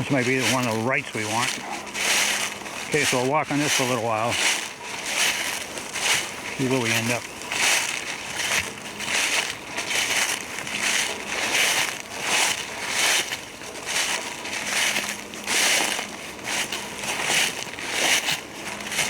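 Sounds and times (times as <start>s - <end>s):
footsteps crunching dry leaves: 0.0s - 19.0s.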